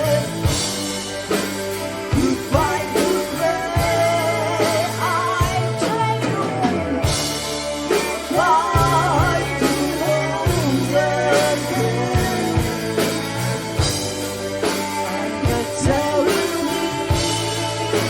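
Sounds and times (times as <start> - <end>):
man singing with vibrato: 0.0 - 0.7, 2.0 - 18.0
bass guitar: 0.0 - 18.0
drums: 0.0 - 18.0
electric guitar: 0.0 - 18.0.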